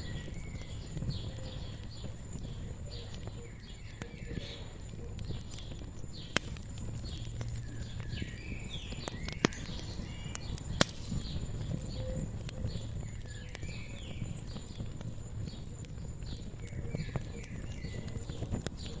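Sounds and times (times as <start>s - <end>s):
fire popping: 0.0s - 19.0s
songbirds chirping: 0.0s - 19.0s
wood fire crackling: 0.0s - 19.0s.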